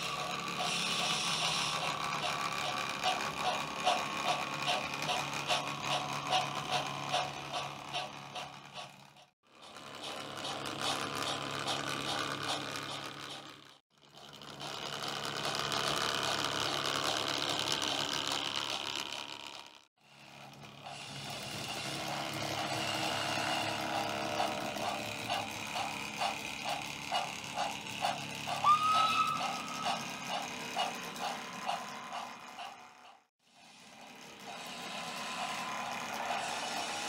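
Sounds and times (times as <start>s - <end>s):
model train motor whirring: 0.0s - 37.0s.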